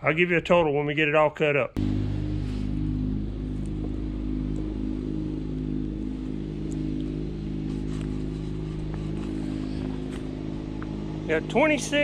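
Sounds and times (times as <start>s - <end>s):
engine running steadily: 1.8s - 12.0s.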